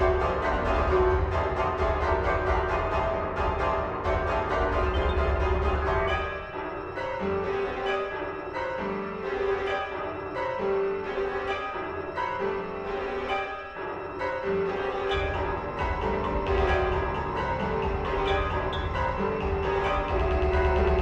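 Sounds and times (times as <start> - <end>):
keyboard playing repeated chords: 0.0 - 21.0.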